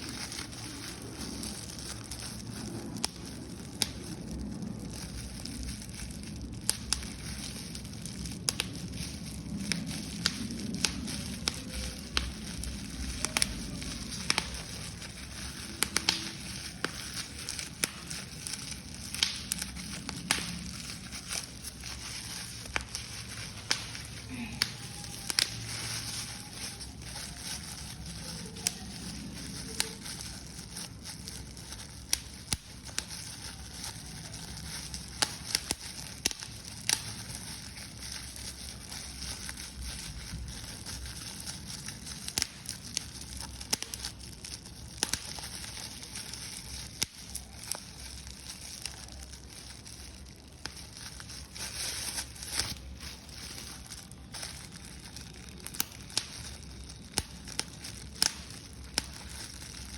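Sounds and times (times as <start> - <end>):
paper crumpling: 0.0 - 59.9.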